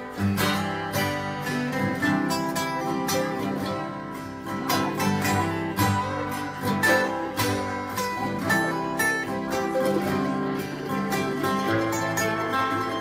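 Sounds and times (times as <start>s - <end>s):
acoustic guitars strumming: 0.0s - 13.0s
mandolin playing: 0.0s - 13.0s.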